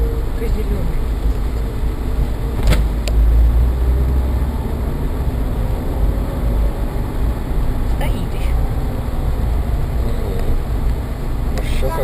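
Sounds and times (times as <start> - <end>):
vehicle rumble from inside: 0.0 - 12.0.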